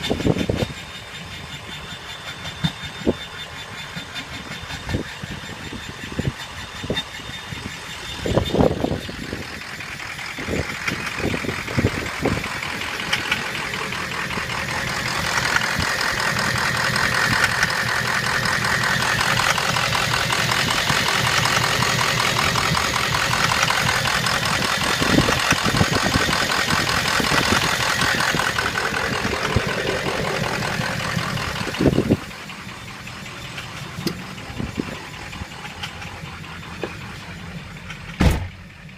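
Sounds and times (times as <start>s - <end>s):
diesel engine running: 0.0s - 38.9s
engine knocking: 0.0s - 38.9s.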